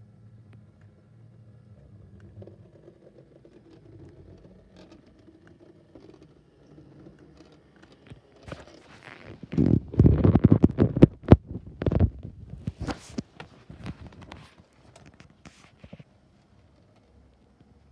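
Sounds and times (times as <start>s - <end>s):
wheels clicking on rails: 0.4s - 17.9s.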